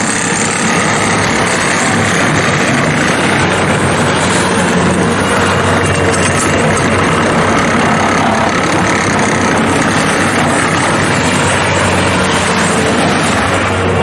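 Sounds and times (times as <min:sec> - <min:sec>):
diesel engine running steadily: 0:00.0 - 0:14.0.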